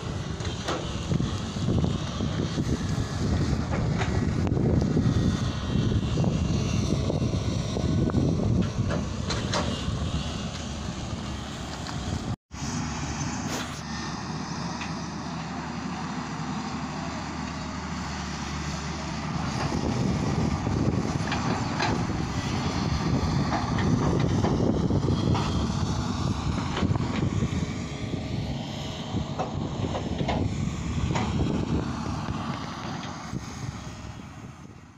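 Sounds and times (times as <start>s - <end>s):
wind buffeting microphone: 0.0s - 12.8s, 18.0s - 34.9s.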